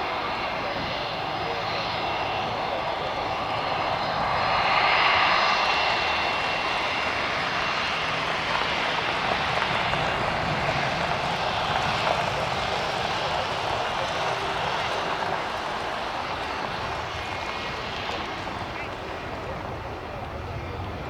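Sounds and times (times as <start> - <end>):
airliner engines droning: 0.0 - 21.0
faint engine whine: 0.0 - 21.0.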